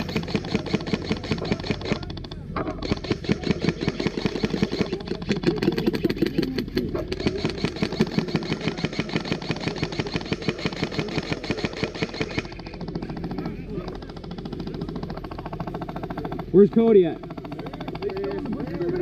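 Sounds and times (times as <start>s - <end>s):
airsoft guns firing full auto: 0.0s - 19.0s.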